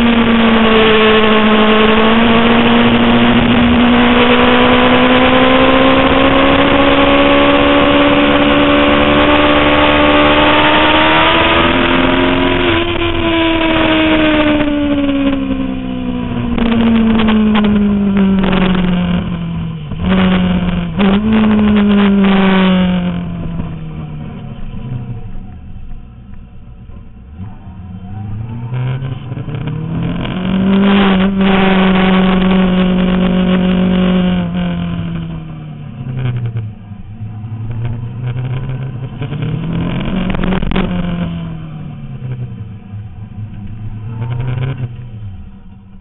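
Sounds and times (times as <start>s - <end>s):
exhaust cracks: 0.0s - 46.0s
motorcycle engine revving: 0.0s - 46.0s.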